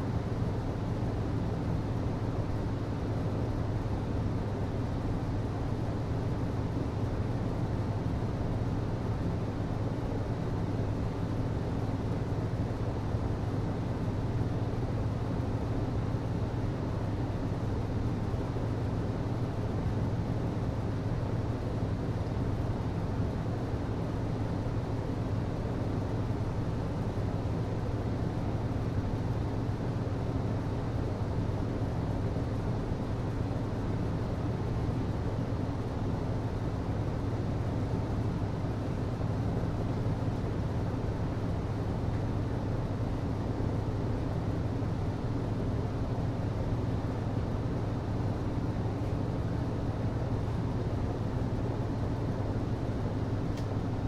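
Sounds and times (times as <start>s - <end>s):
low hum of air conditioning: 0.0s - 54.0s.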